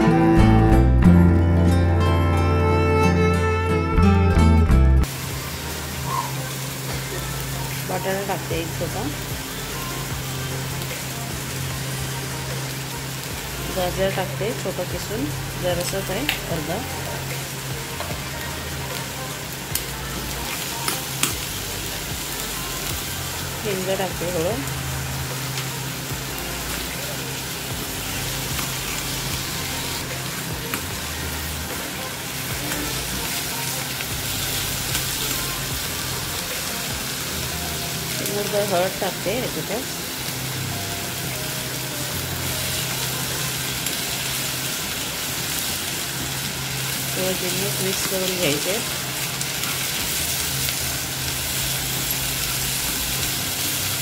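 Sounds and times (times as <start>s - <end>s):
vegetables sizzling in a pan: 5.0s - 54.0s.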